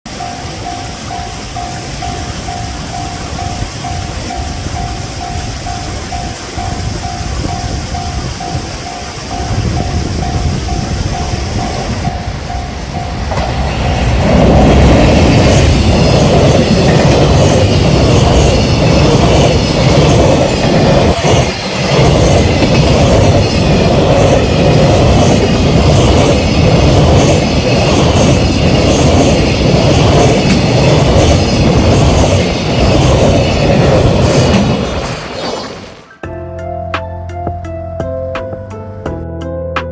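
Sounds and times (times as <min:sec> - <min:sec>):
freight train passing at speed: 0:00.1 - 0:36.2
wheels clacking over rail joints: 0:00.1 - 0:36.2.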